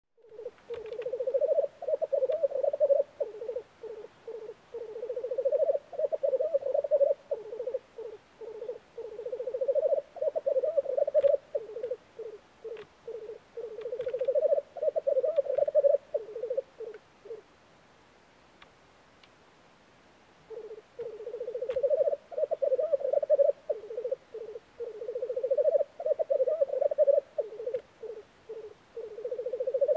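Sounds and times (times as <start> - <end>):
black grouse bubbling display song: 0.2 - 17.5, 20.5 - 29.9.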